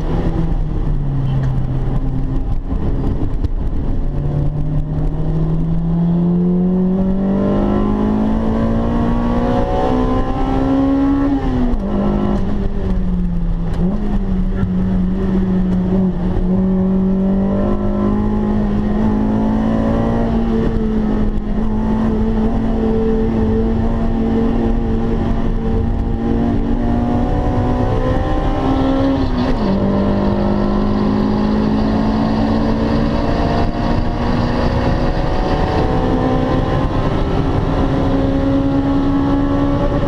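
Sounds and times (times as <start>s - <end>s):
car engine revving: 0.0s - 40.0s
road and wind noise: 0.0s - 40.0s.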